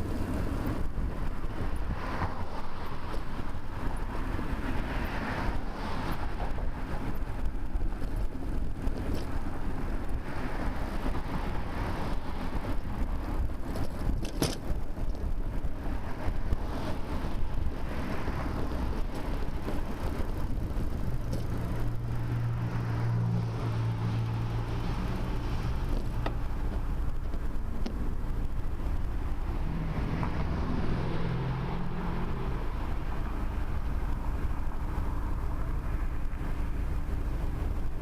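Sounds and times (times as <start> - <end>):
low engine hum: 0.0 - 38.0
passing motor vehicles: 0.0 - 38.0
road noise: 0.0 - 38.0
rumbling wind: 0.0 - 38.0.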